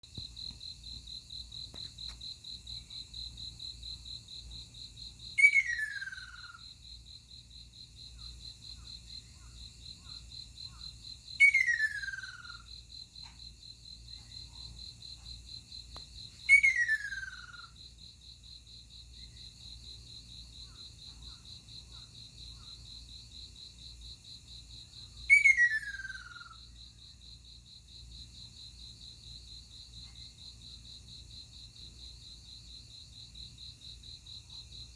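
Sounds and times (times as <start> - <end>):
high insect trill: 0.0 - 34.9.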